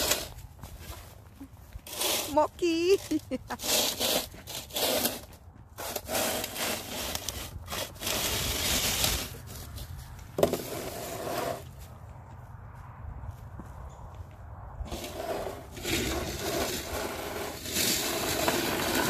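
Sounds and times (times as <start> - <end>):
snow shovel scraping pavement: 0.0 - 11.7, 14.8 - 19.0.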